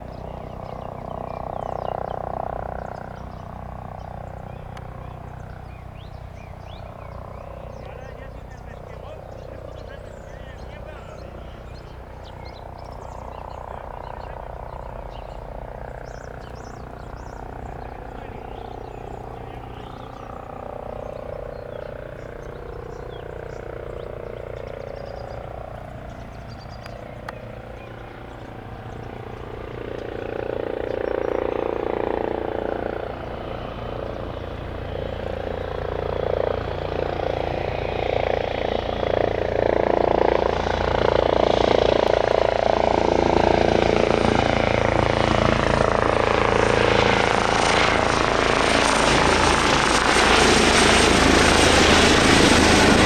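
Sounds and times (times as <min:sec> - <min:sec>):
helicopter rotor and turbines: 0:00.0 - 0:53.0.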